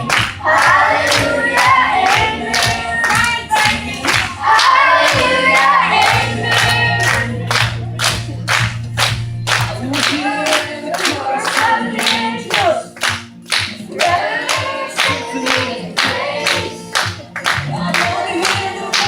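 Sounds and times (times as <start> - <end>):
children's choir singing gospel: 0.0 - 8.0, 9.8 - 12.9, 13.7 - 19.0
hand claps: 0.0 - 19.0.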